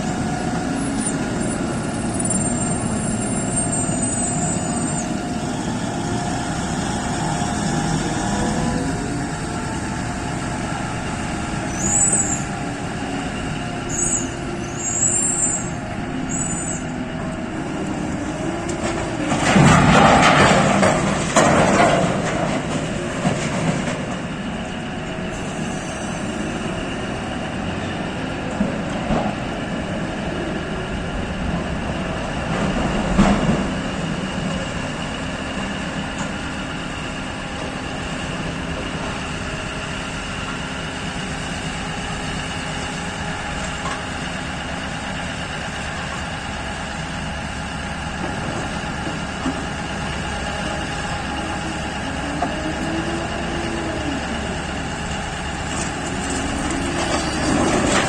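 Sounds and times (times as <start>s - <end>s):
heavy rumble: 0.0s - 14.8s, 15.4s - 58.0s.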